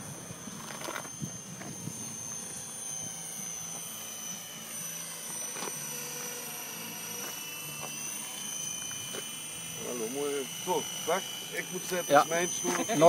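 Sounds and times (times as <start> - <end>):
model helicopter whine: 0.0 - 13.0.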